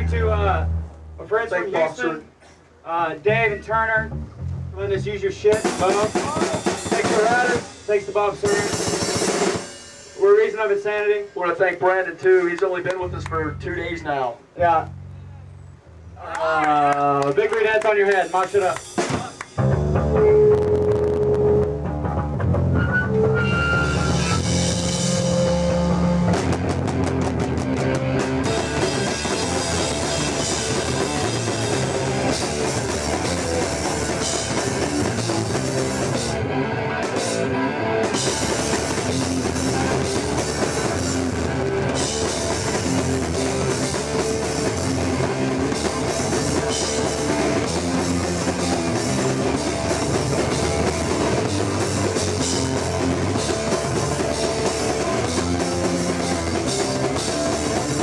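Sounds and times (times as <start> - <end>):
live rock band playing: 0.0 - 1.4, 3.3 - 11.9, 17.8 - 58.0.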